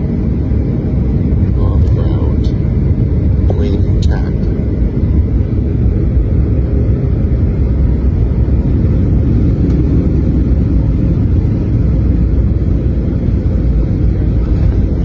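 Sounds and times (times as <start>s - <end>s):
jet engine rumble inside cabin: 0.0s - 15.0s.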